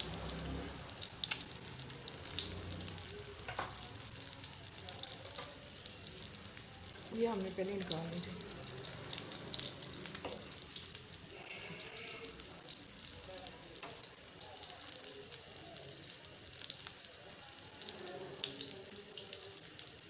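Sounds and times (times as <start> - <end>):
patties sizzling in oil: 0.0 - 20.0.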